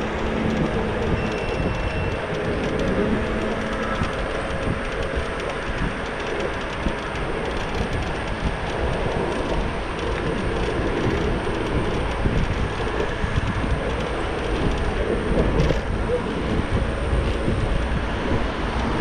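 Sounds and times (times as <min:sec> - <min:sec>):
car traffic passing: 0:00.0 - 0:19.0
road and wind noise: 0:00.0 - 0:19.0.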